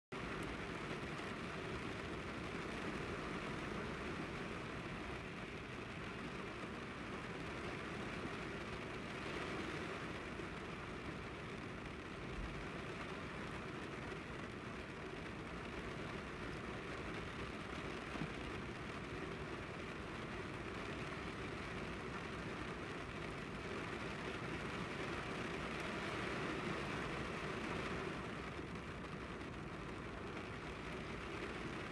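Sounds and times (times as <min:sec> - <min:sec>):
steady rain: 0:00.1 - 0:31.9.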